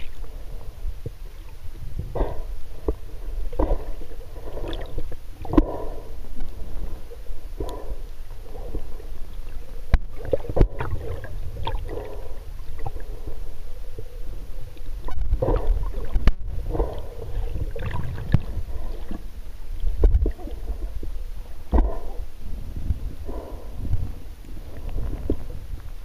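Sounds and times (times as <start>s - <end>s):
low rumble: 0.0s - 26.0s
water sloshing and gurgling: 0.0s - 26.0s.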